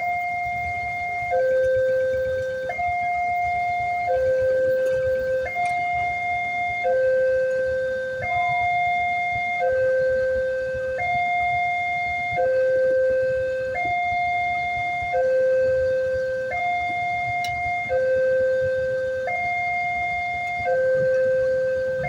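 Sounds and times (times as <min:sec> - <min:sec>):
level-crossing two-tone alarm: 0:00.0 - 0:22.0.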